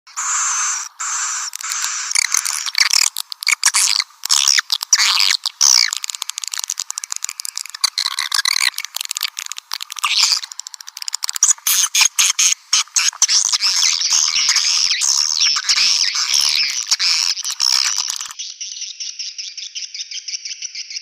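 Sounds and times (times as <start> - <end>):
swiftlets twittering: 0.1 - 18.4.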